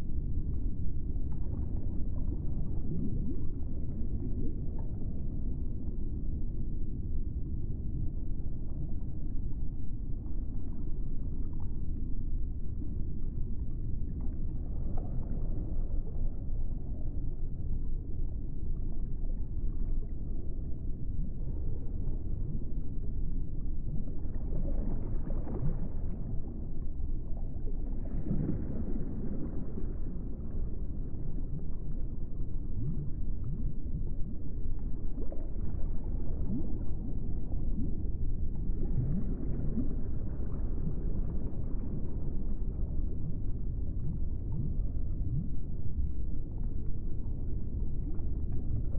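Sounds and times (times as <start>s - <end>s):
low rumbling ambient drone: 0.0s - 48.9s.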